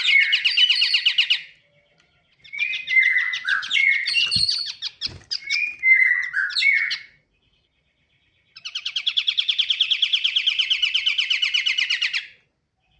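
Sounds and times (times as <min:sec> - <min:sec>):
bird singing chirps and trill: 0:00.0 - 0:12.9.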